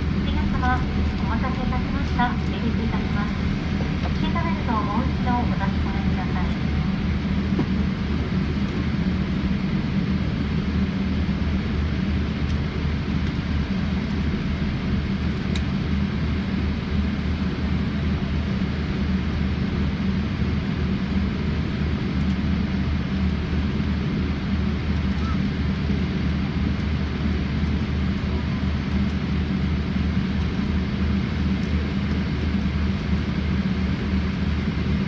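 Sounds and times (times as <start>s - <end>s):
jet engines humming in cabin: 0.0s - 35.0s.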